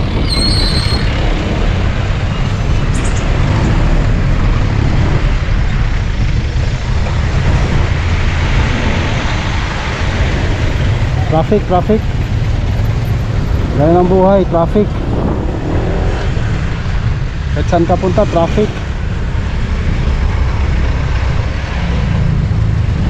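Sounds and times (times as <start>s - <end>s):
traffic engines rumbling: 0.0s - 23.0s.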